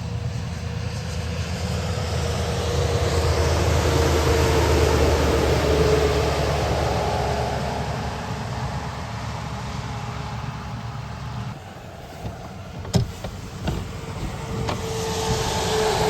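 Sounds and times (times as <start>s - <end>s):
truck engine and tyre noise: 0.0s - 16.0s.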